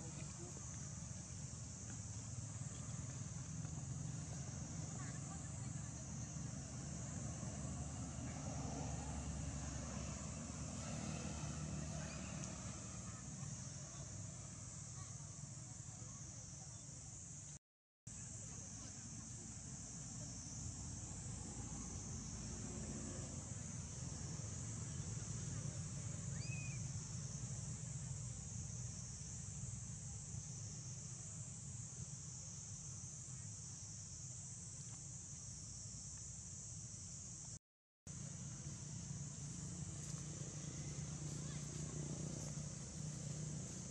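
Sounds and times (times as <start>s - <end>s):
constant high hiss: 0.0s - 43.9s
insect chorus buzzing: 0.0s - 43.9s.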